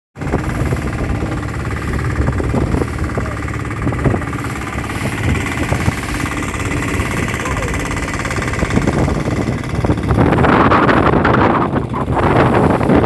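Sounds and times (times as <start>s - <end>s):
boat engine running: 0.2s - 13.0s.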